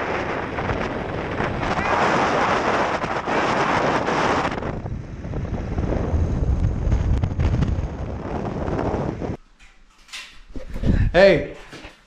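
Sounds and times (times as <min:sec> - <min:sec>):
wind buffeting microphone: 0:00.0 - 0:09.4, 0:10.5 - 0:11.2.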